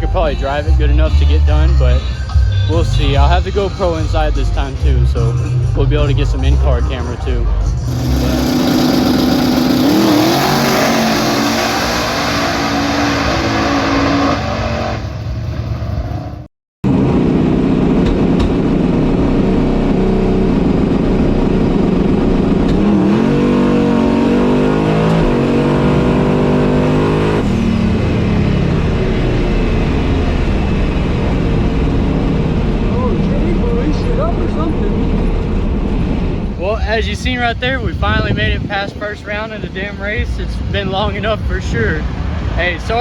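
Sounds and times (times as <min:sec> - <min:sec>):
engine revving through gear shifts: 0:00.0 - 0:16.1, 0:16.9 - 0:36.2.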